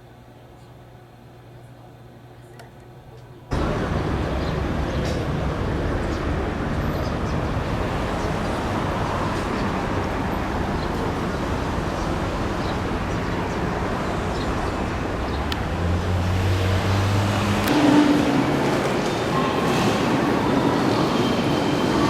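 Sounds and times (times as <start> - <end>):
train rumbling: 3.5 - 22.0.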